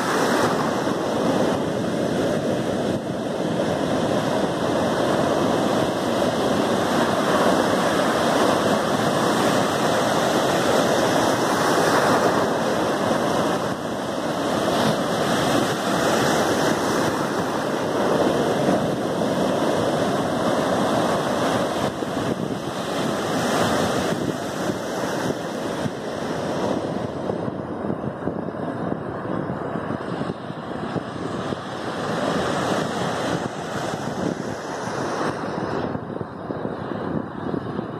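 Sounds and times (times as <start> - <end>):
water rushing over shallows: 0.0 - 37.9.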